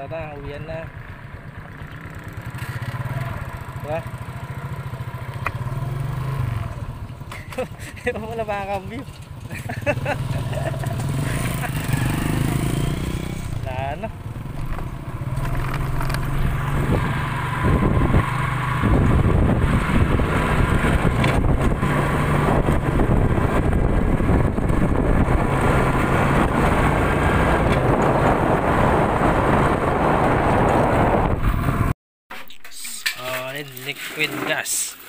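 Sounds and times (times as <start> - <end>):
motorcycle engine running: 0.6 - 30.0.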